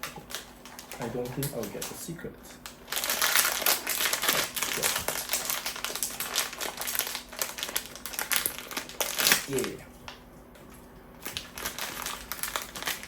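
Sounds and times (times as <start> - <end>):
packaging clicks and crinkles: 0.0 - 10.2, 11.2 - 13.0.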